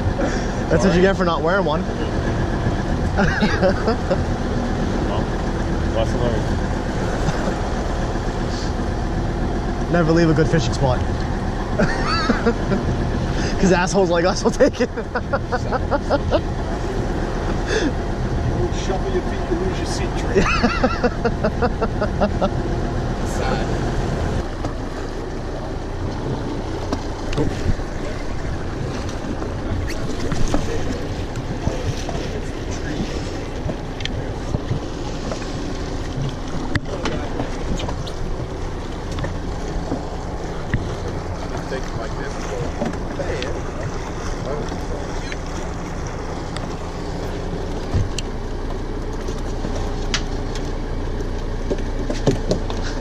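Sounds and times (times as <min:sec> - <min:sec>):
boat engine droning: 0:00.0 - 0:53.0
water noise: 0:00.0 - 0:53.0
waves washing against hull: 0:00.0 - 0:53.0
wind: 0:00.0 - 0:53.0.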